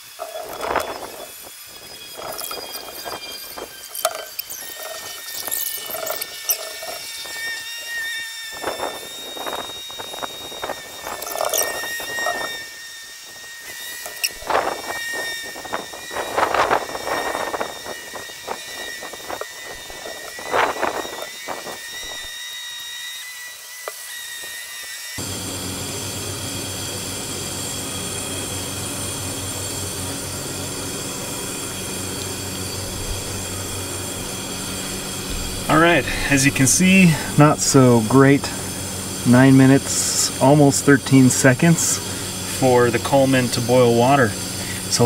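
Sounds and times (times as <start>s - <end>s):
stove burner high-pitched squealing: 0.0s - 23.1s, 25.2s - 45.0s.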